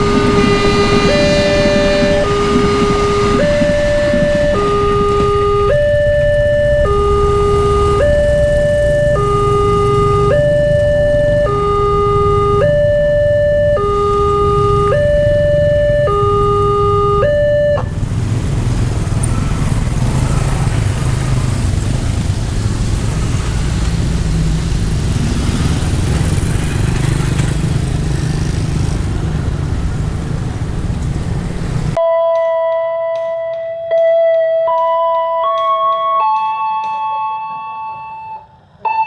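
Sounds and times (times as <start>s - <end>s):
level crossing two-tone siren: 0.0s - 32.0s
low rumbling noise: 0.0s - 32.0s.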